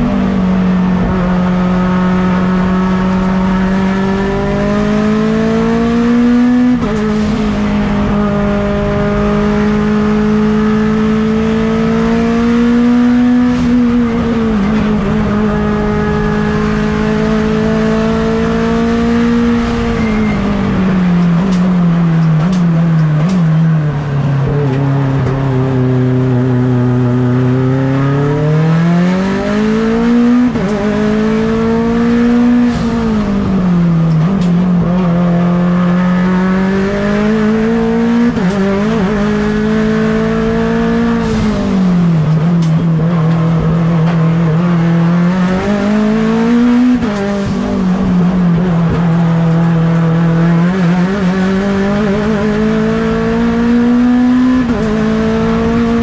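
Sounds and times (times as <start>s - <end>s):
race car engine revving hard: 0.0s - 56.0s.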